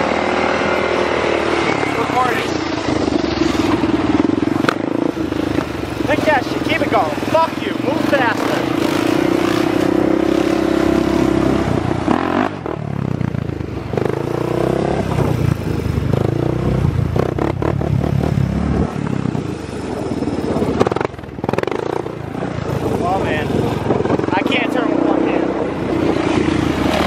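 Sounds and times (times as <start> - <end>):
off-road engines revving: 0.0 - 27.0.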